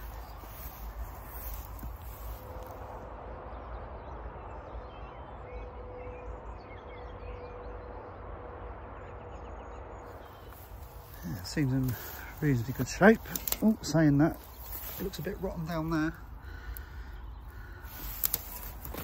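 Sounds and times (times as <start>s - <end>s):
small birds chirping: 0.0s - 8.2s, 8.9s - 19.0s
low outdoor rumble: 0.0s - 19.0s.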